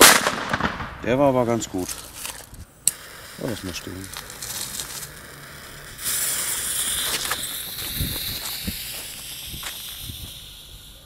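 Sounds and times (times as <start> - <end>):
firecracker fuse hissing: 1.4 - 11.0.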